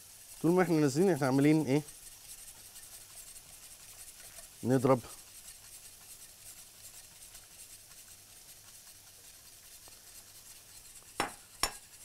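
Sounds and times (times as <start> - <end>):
whisk stirring in saucepan: 0.0 - 12.0.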